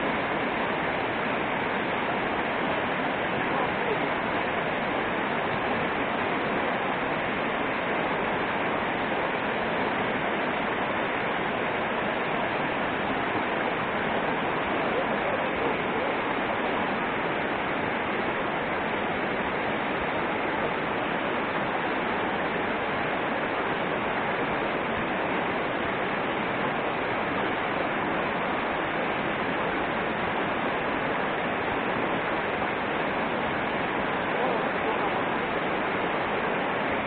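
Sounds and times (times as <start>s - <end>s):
river rushing over rocks: 0.0s - 37.0s.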